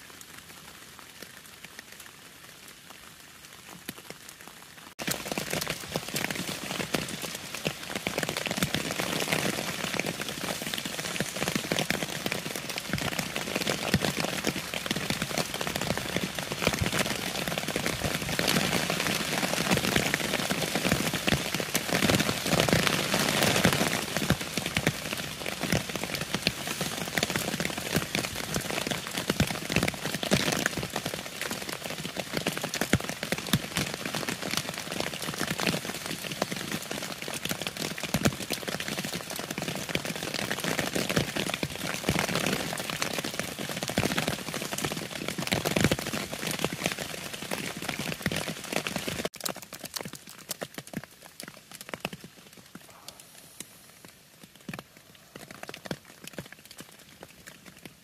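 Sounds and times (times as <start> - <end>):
rain pattering on tarp and leaves: 0.0 - 58.0.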